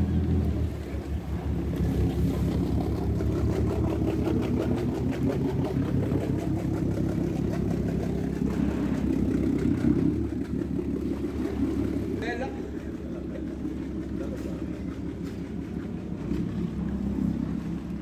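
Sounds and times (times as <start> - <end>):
boat engine humming with clatter: 0.0 - 18.0.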